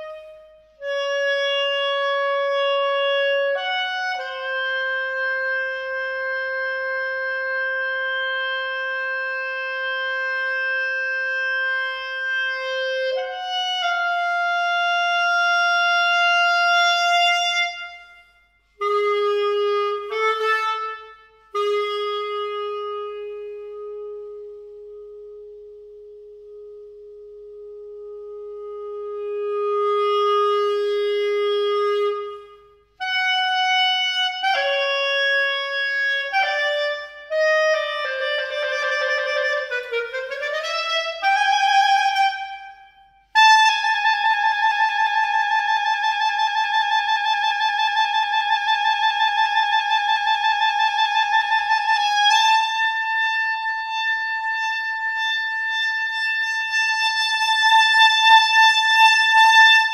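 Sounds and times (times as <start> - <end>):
solo clarinet playing: 0.0 - 59.9.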